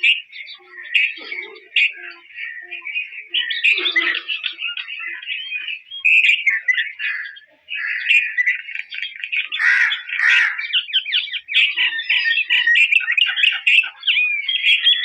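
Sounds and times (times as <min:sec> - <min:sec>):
bird chirping and chattering: 0:00.0 - 0:15.0
harsh bird calls: 0:00.0 - 0:15.0.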